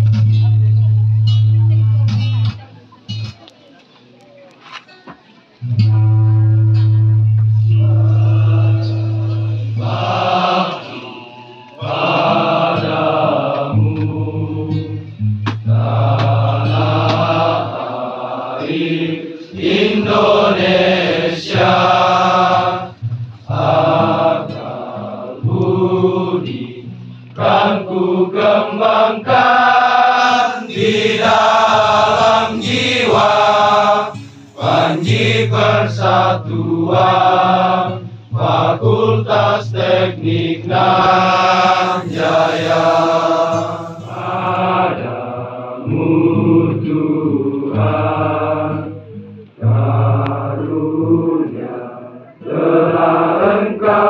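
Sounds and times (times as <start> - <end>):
crowd singing a hymn: 7.0 - 54.0.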